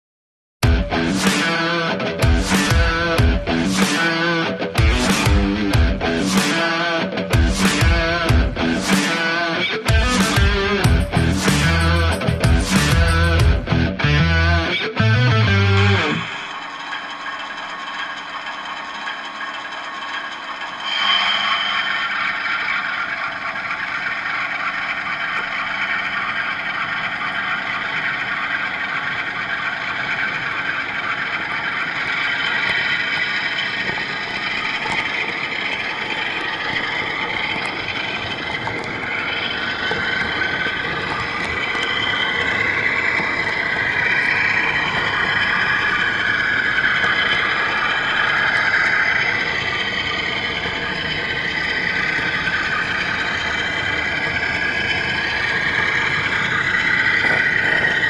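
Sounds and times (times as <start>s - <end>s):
model train running on track: 0.6s - 58.0s
wavering high whine: 0.6s - 58.0s.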